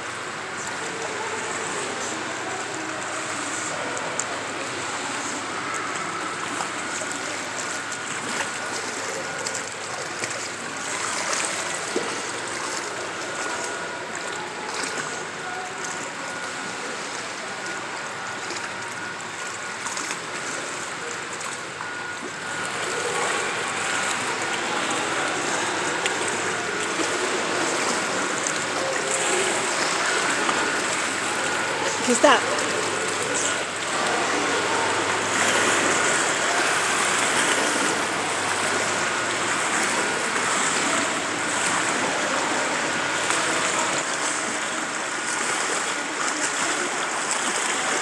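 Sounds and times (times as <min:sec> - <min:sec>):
pool water splashing: 0:00.0 - 0:48.0.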